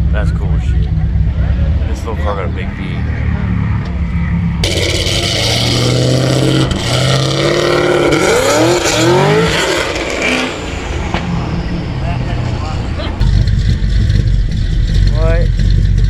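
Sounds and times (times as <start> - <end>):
car engine running: 0.0 - 16.0
engine throttle blips: 0.0 - 16.0.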